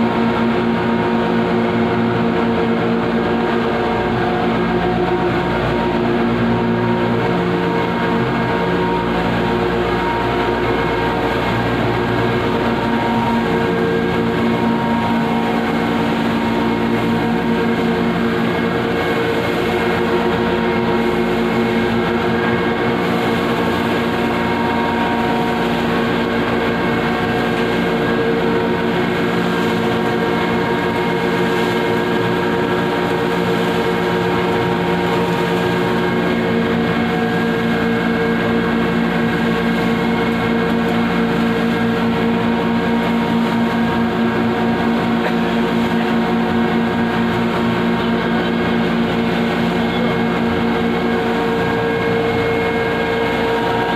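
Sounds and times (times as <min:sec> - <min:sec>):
grinding machinery drone: 0:00.0 - 0:53.9.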